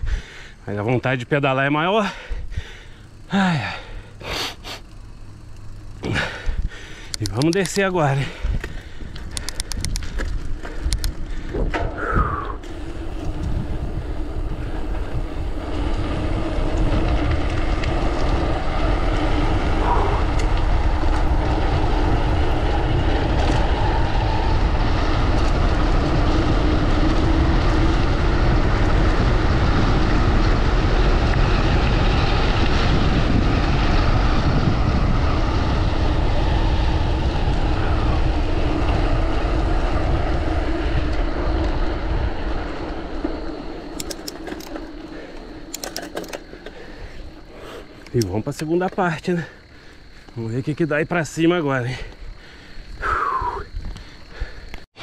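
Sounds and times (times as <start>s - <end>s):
wind rushing over microphone: 0.0s - 3.8s, 6.0s - 55.0s
bike clicks: 0.0s - 55.0s
bike tyre rumble: 0.0s - 55.0s.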